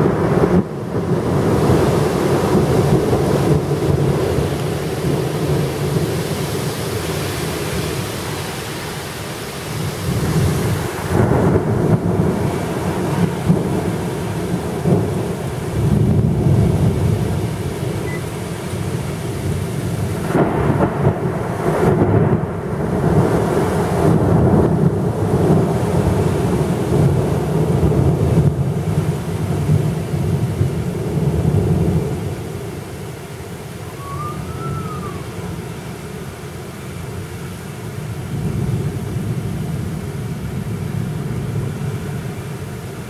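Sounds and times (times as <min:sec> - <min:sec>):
thunder rumbling: 0:00.0 - 0:32.8, 0:33.8 - 0:35.8
heavy rain hissing: 0:00.0 - 0:43.0.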